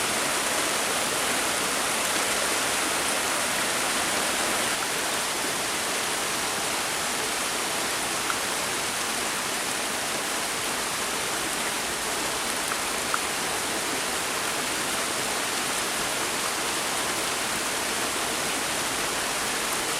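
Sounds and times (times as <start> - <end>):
steady rain hiss: 0.0 - 19.9.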